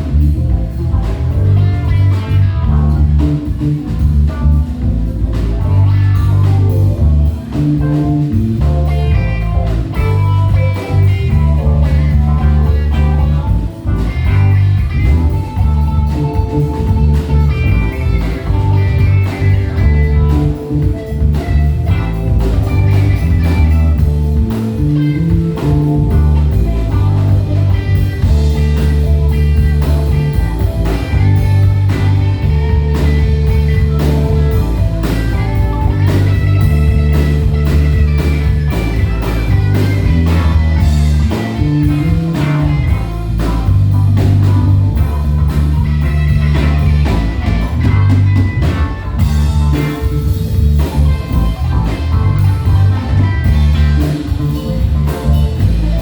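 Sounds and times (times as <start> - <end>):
bass line: 0.0 - 56.0
drum kit: 0.0 - 56.0
electric guitar: 0.0 - 56.0.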